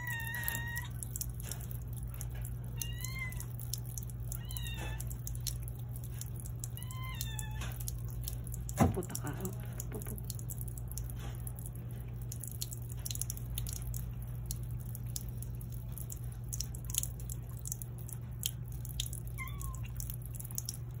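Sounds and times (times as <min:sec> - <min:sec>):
cat lapping water: 0:00.0 - 0:21.0
water splashing: 0:00.0 - 0:21.0.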